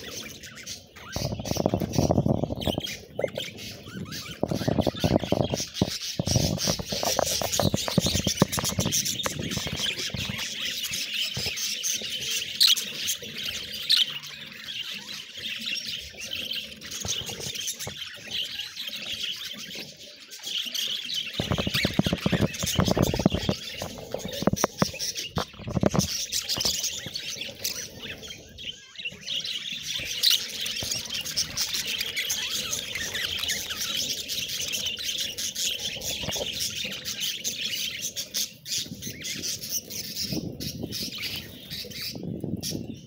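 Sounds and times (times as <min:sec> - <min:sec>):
budgerigars chirping: 0:00.0 - 0:43.0.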